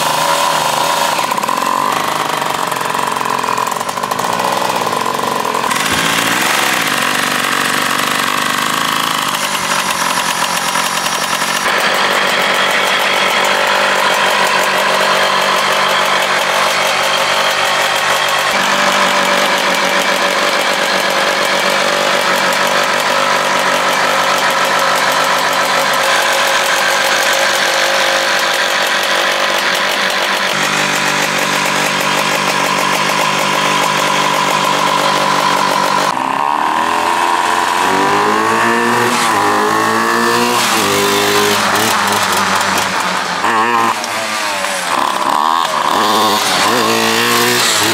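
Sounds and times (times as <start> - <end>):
toy tractor two-stroke engine: 0.0 - 47.9.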